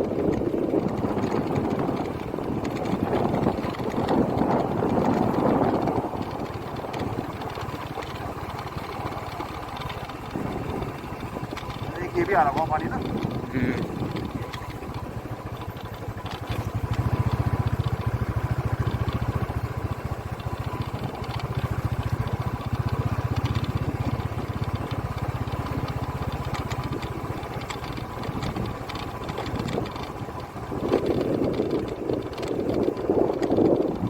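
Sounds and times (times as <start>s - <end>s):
vehicle engine chugging: 0.0s - 34.0s.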